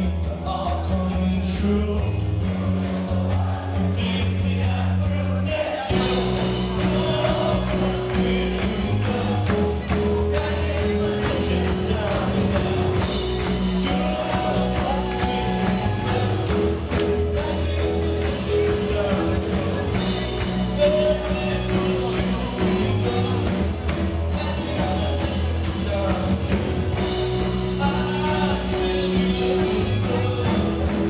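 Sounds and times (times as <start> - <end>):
live band playing pop song: 0.0 - 31.0
man singing: 0.0 - 31.0.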